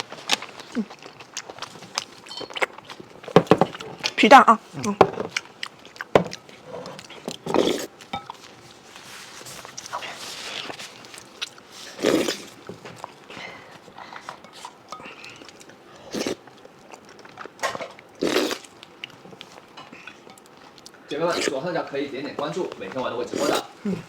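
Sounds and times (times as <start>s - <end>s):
chewing and mouth noises: 0.0s - 21.7s.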